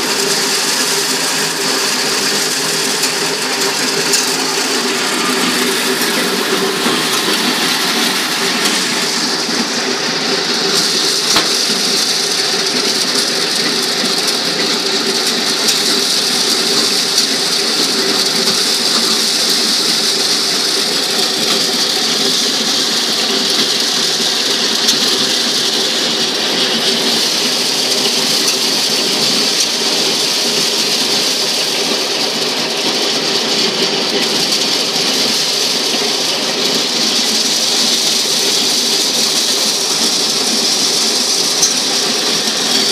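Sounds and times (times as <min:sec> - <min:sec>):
motor-driven maize sheller running: 0:00.0 - 0:42.9.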